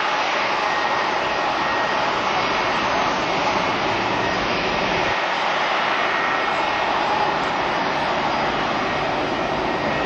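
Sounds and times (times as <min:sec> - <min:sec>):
faint thin whine: 0:00.0 - 0:10.0
jet engines running: 0:00.0 - 0:10.0.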